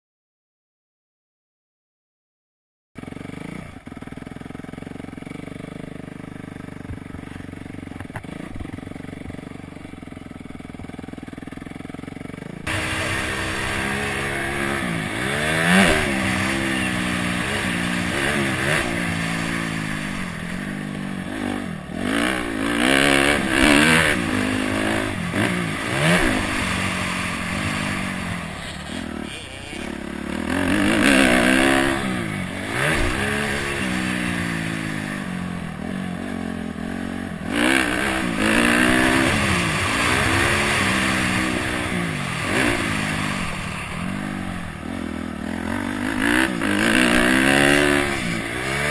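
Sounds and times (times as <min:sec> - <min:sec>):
motorcycle engine revving: 0:03.0 - 0:48.9.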